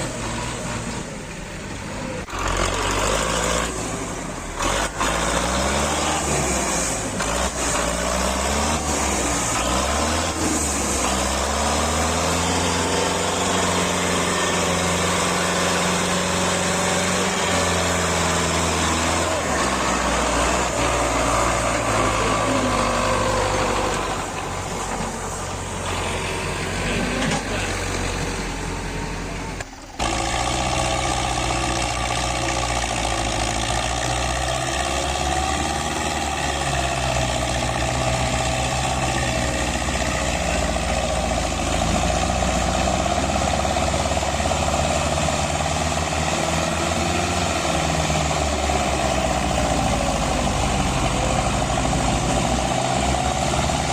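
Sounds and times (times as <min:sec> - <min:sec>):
diesel tractor engines running hard: 0:00.0 - 0:53.9.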